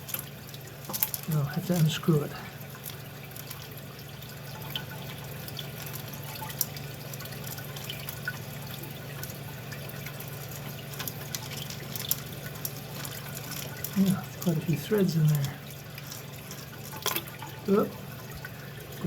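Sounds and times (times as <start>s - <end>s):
water trickling in toilet tank: 0.0s - 19.0s.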